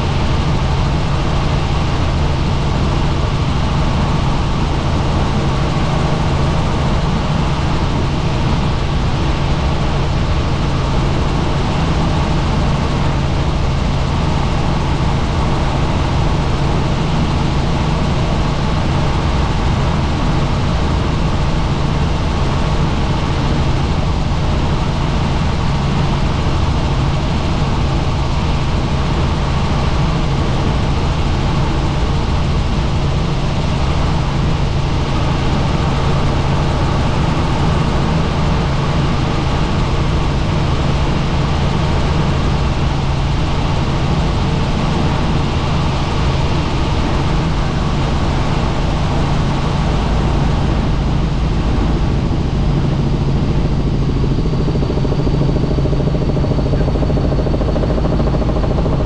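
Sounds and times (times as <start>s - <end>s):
helicopter drone: 0.0s - 59.0s.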